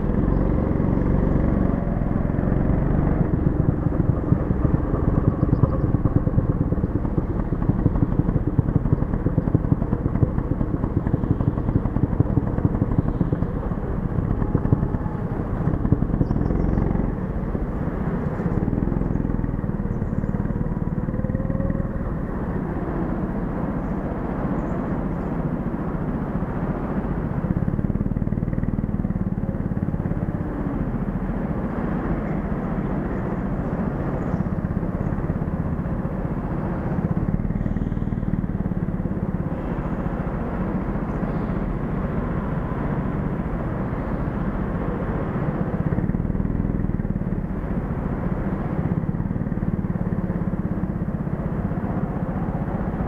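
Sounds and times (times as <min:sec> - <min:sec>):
go-kart engine running hard: 0:00.0 - 0:53.0.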